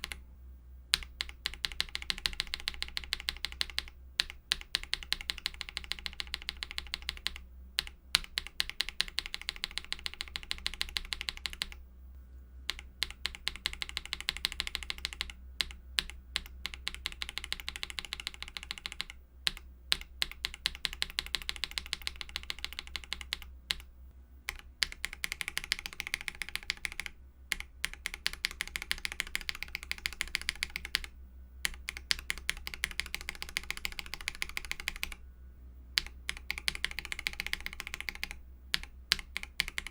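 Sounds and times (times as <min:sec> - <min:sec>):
typing on mechanical keyboard: 0:00.0 - 0:00.2, 0:00.9 - 0:11.8, 0:12.7 - 0:23.9, 0:24.5 - 0:35.2, 0:36.0 - 0:39.9.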